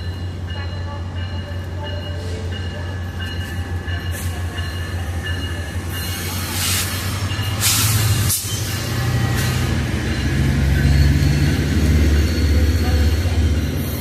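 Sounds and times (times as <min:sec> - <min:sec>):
train locomotive rumbling: 0:00.0 - 0:14.0.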